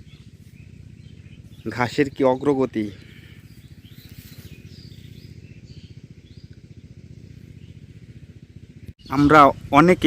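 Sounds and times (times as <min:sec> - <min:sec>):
birds chirping: 0:00.0 - 0:10.0
engine running low throb: 0:00.0 - 0:10.0.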